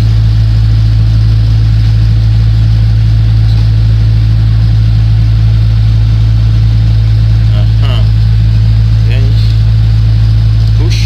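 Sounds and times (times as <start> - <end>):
loud low hum: 0.0 - 11.0.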